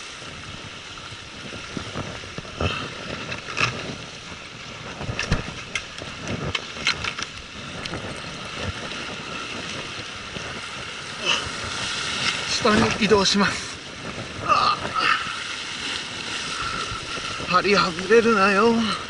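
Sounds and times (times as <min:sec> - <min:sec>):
waves washing against rocks: 0:00.0 - 0:19.0
wind on microphone: 0:00.0 - 0:19.0.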